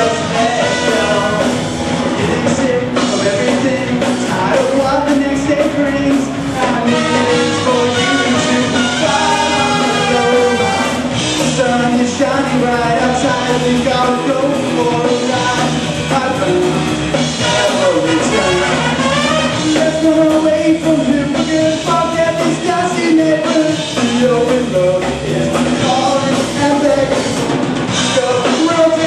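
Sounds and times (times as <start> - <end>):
electric guitar: 0.0 - 29.0
live rock band playing: 0.0 - 29.0
person singing: 0.0 - 29.0.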